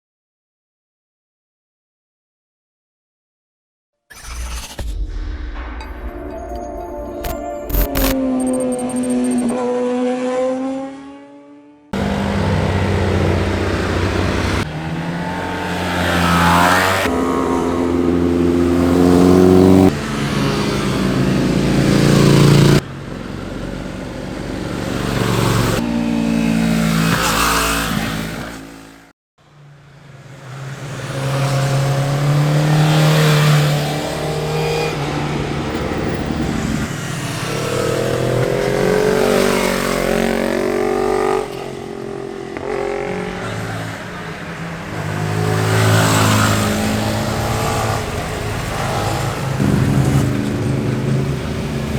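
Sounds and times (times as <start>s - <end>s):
motorcycles passing at speed: 9.1s - 51.9s.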